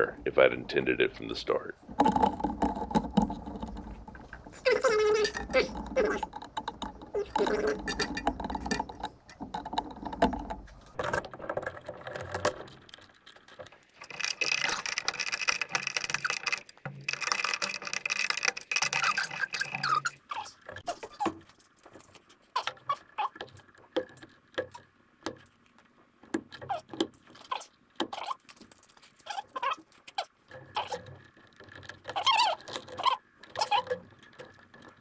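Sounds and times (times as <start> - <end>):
scraping and rustling: 0.0 - 35.0
hand tools clicking on wire: 1.2 - 35.0.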